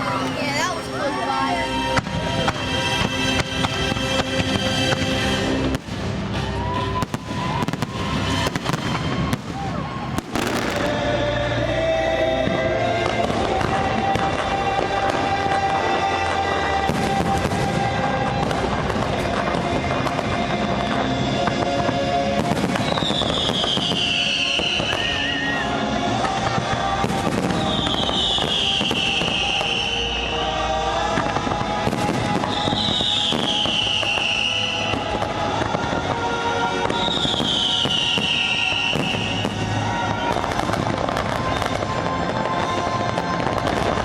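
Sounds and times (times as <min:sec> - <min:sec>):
fireworks bursting and crackling: 0:00.0 - 0:44.0
music: 0:00.0 - 0:44.0.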